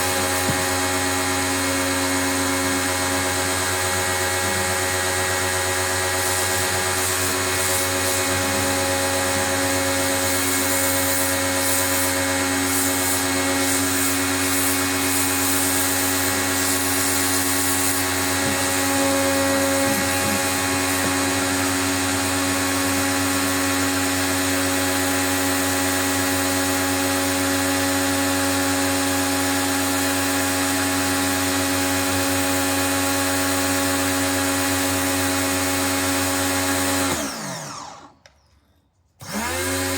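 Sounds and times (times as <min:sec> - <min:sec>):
pressure washer running: 0:00.0 - 0:38.3, 0:39.2 - 0:39.9.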